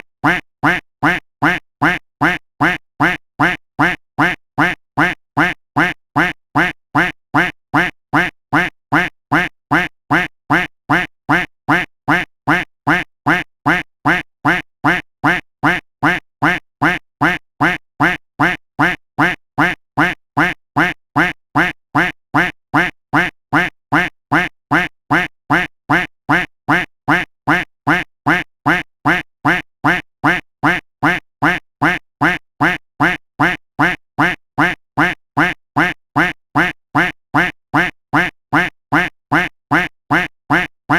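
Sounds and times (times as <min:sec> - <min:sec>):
duck quacking: 0:00.0 - 0:40.9.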